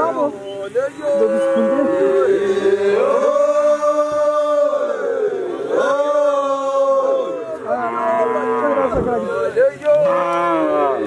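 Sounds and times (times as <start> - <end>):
group of voices chanting: 1.1 - 11.0.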